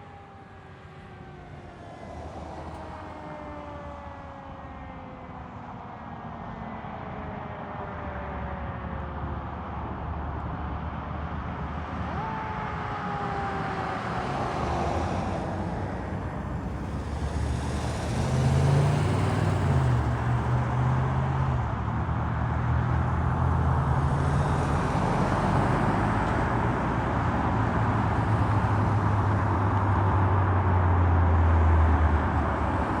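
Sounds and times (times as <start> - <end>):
road noise: 0.0 - 33.0
diesel engine drone: 6.4 - 33.0.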